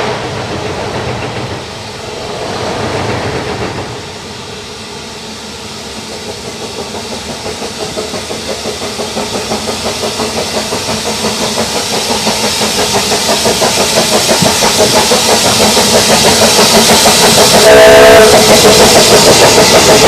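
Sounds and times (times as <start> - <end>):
steam hiss: 0.0 - 20.0
steam locomotive exhaust beats: 0.0 - 20.0.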